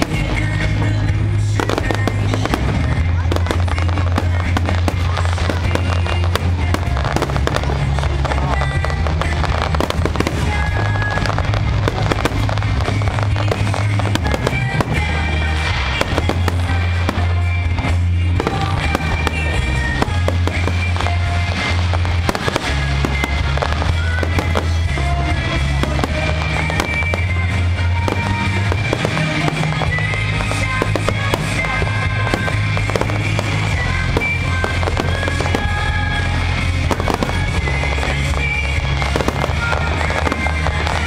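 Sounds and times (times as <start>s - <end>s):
fireworks bangs and crackles: 0.0s - 41.0s
loud music with held bass: 0.0s - 41.0s.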